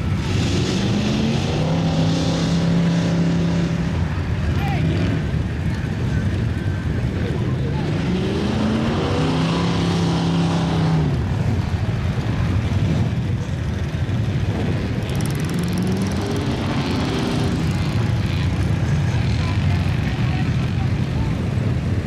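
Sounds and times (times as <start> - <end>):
truck engine revving: 0.0 - 6.0, 7.0 - 21.8.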